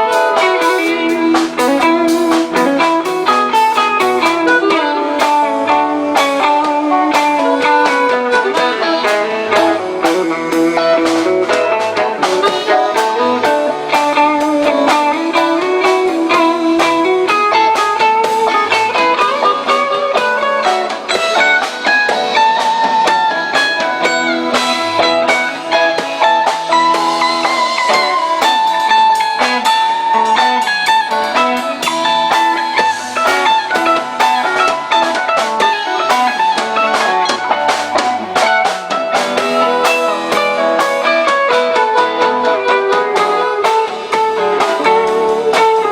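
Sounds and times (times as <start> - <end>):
electric guitar melody: 0.0 - 45.9
live rock band playing: 0.0 - 45.9.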